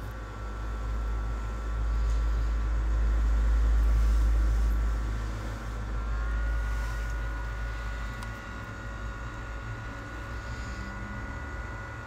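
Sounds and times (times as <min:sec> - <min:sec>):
hot air blower hum: 0:00.0 - 0:12.0.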